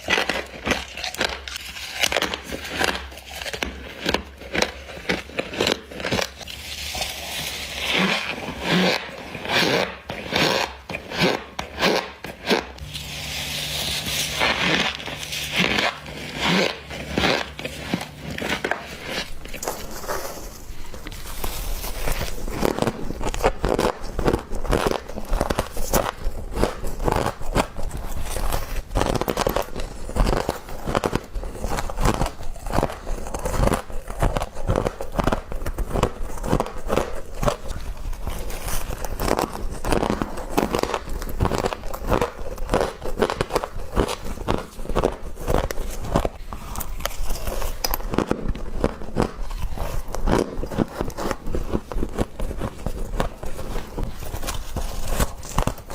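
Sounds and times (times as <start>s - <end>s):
crunching frost: 0.0s - 55.9s.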